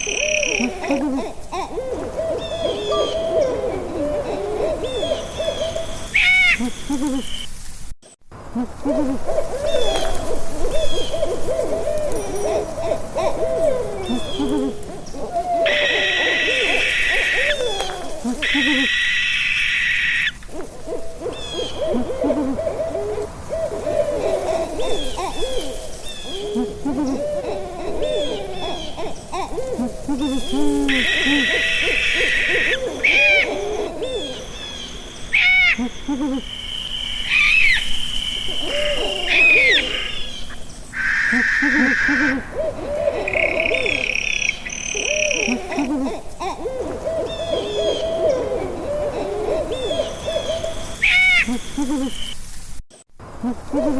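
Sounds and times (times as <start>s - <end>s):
owls hooting: 0.0s - 7.5s, 8.4s - 52.4s, 53.2s - 53.9s
harsh owl calls: 0.0s - 7.6s, 8.4s - 52.4s, 53.2s - 53.9s.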